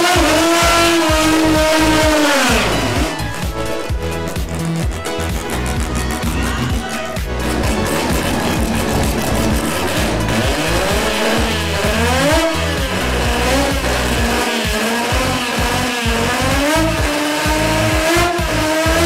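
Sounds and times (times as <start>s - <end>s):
rotary engine revving: 0.0s - 19.0s.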